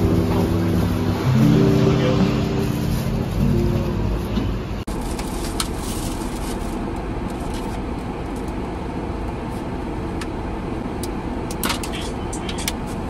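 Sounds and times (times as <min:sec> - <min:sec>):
low hum inside car cabin: 0:00.0 - 0:13.0.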